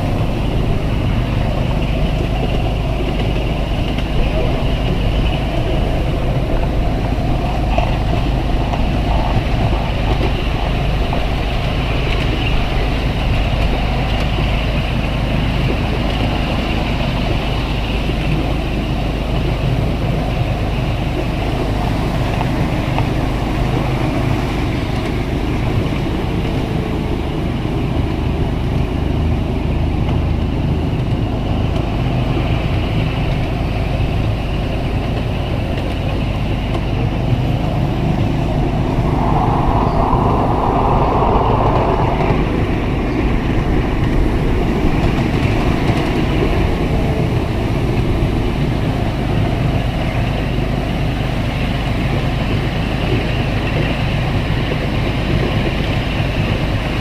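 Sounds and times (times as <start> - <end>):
miniature train rumbling on track: 0.0 - 57.0.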